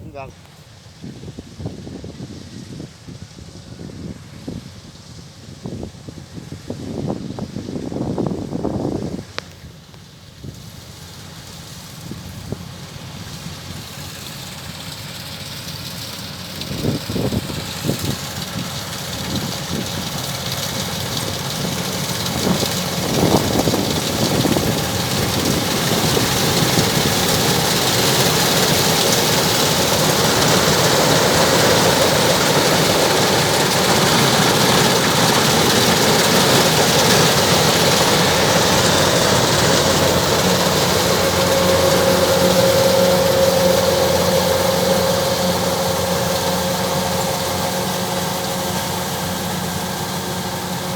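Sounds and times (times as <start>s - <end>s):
diesel engine running: 5.1s - 50.9s.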